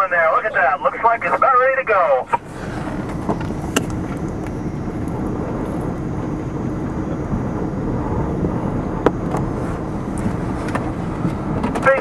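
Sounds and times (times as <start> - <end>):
wind rumble on microphone: 2.2 - 12.0.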